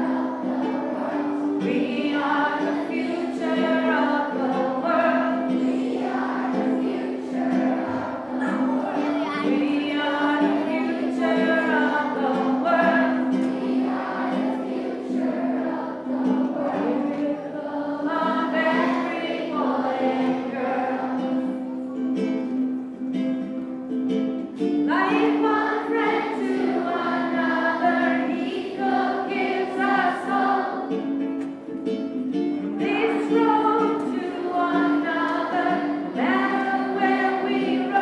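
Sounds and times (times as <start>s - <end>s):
children singing together: 0.0s - 38.0s
ukulele accompaniment: 0.0s - 38.0s.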